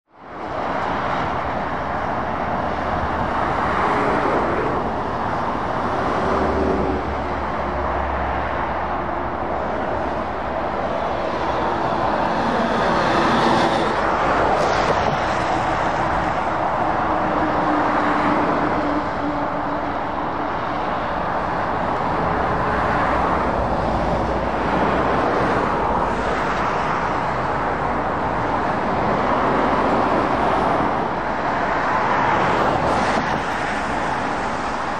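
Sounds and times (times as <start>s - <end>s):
vehicles passing at speed: 0.1s - 34.9s
truck engines droning: 0.2s - 34.9s.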